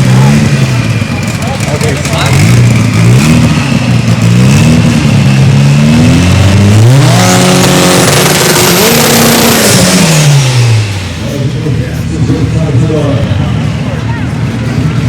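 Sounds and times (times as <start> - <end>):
drag racing car accelerating: 0.0 - 15.0.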